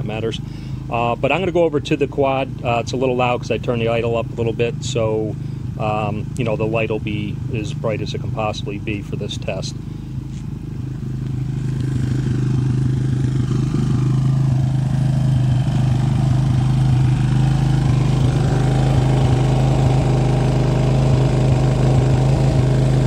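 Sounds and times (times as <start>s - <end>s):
quad bike engine idling: 0.0s - 23.0s.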